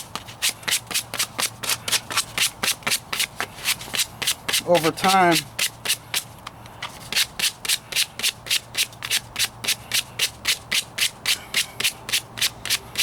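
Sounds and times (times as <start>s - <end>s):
hand sanding strokes: 0.0s - 13.0s.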